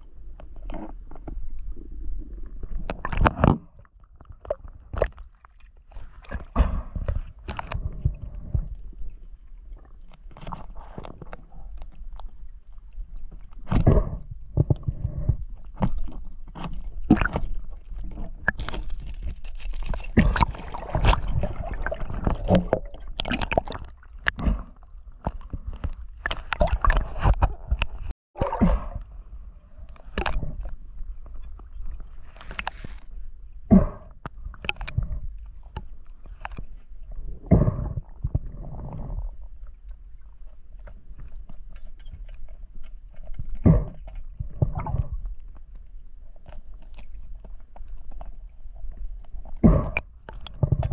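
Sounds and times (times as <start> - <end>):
water sloshing and gurgling: 0.0 - 50.9.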